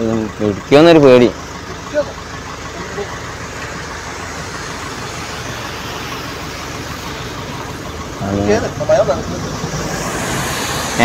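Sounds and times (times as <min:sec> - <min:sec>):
road traffic rush: 0:00.0 - 0:11.0.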